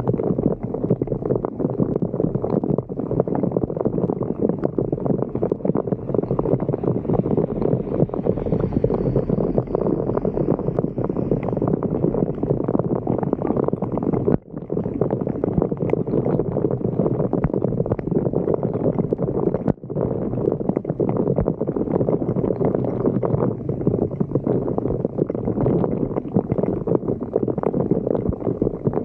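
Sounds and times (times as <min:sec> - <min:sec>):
water churning and gurgling: 0:00.0 - 0:29.0.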